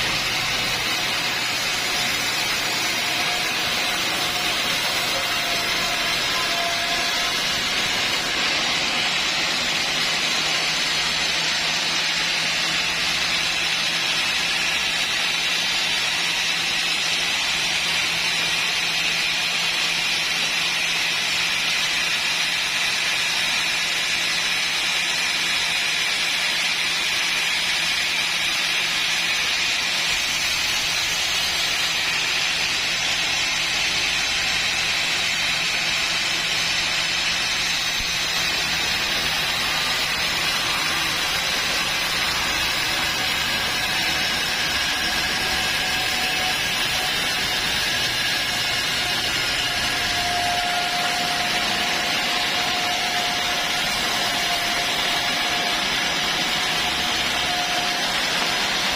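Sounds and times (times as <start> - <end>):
sawmill saw whining: 0.0 - 58.9.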